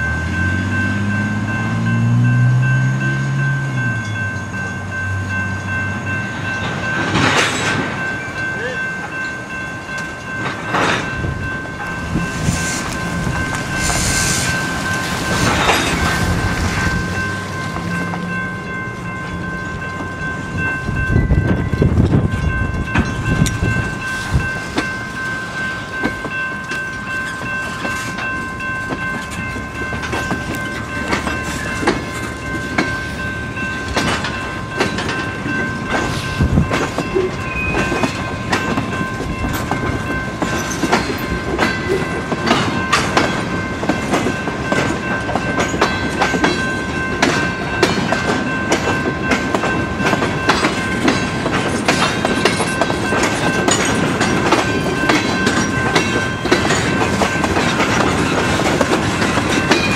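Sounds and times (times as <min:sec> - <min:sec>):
crossing bell ringing: 0:00.0 - 0:59.9
train wheels clattering on rails: 0:00.0 - 0:59.9.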